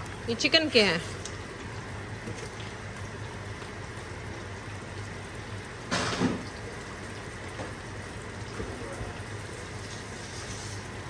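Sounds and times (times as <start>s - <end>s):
kitchen exhaust fan hum: 0.0s - 11.0s
meat sizzling in hot oil: 0.0s - 11.0s.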